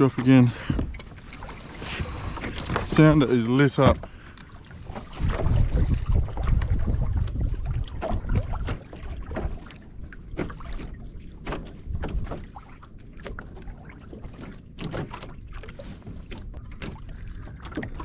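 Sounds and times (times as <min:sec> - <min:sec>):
water lapping against kayak hull: 0:00.0 - 0:18.0.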